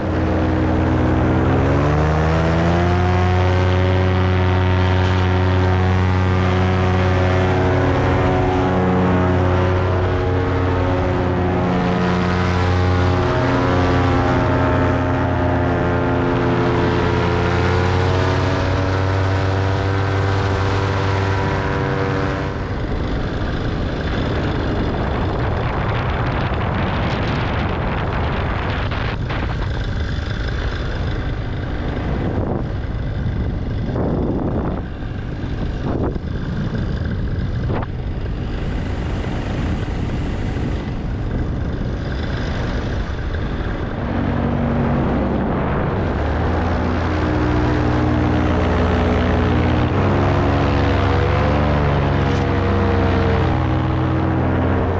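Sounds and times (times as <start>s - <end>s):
paramotor engine and propeller: 0.0s - 54.9s
wind rushing over microphone: 0.0s - 54.9s.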